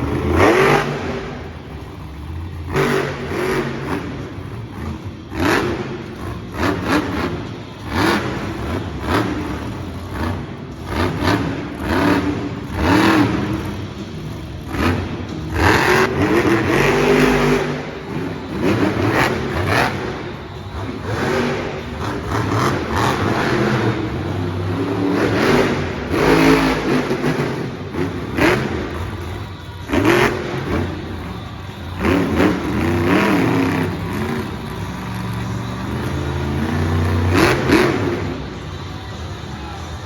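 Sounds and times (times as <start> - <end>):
monster truck engine revving: 0.0 - 40.0.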